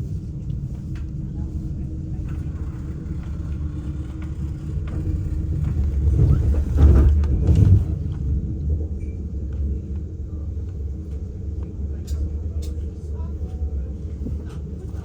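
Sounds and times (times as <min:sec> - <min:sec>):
high-speed train rumble from inside: 0:00.0 - 0:15.0.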